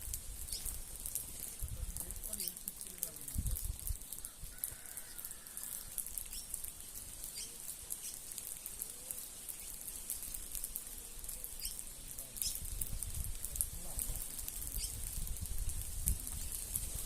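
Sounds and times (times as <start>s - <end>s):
birds chirping and ticking: 0.0s - 17.0s.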